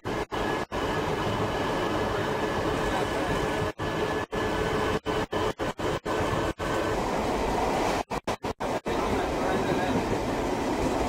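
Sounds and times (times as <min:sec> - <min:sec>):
electric train running: 0:00.0 - 0:11.0
faint constant tones: 0:00.0 - 0:11.0.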